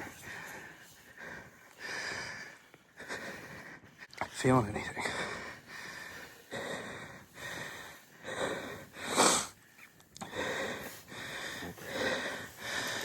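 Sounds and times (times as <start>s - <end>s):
person breathing heavily: 0.0s - 4.2s, 4.9s - 13.0s.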